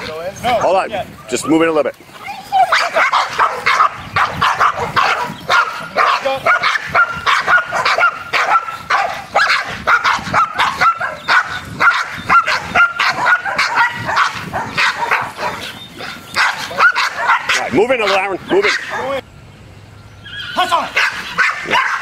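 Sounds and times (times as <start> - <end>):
dogs barking rapidly: 0.0 - 19.2, 20.3 - 22.0.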